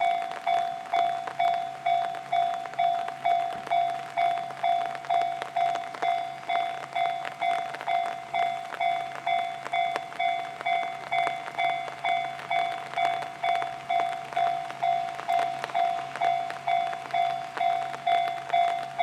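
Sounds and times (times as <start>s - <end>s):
level-crossing warning bell: 0.0s - 19.0s.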